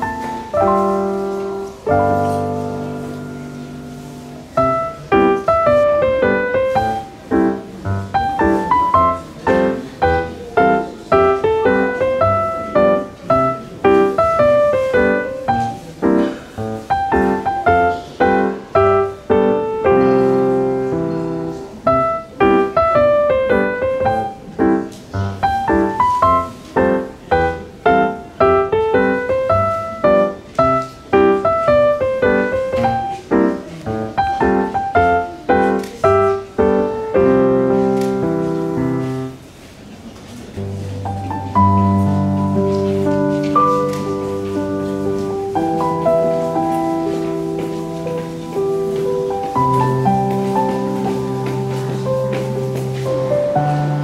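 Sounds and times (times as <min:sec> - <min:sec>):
piano music: 0:00.0 - 0:39.7, 0:40.5 - 0:54.0.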